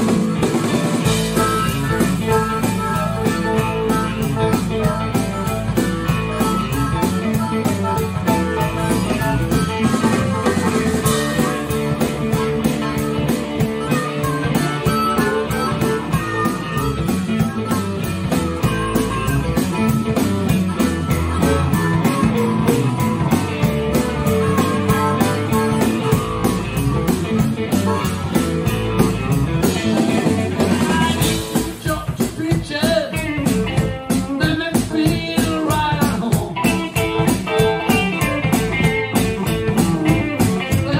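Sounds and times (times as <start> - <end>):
live rock band playing: 0.0 - 40.9
wavering lead guitar line: 0.0 - 40.9.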